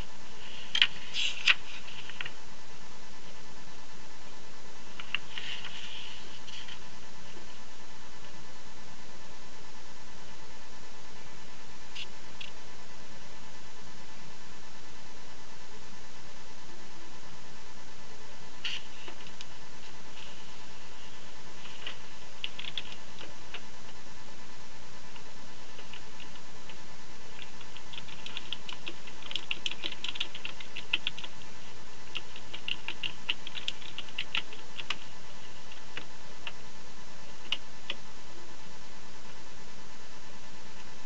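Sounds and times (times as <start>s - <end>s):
steady background hum: 0.0s - 41.0s.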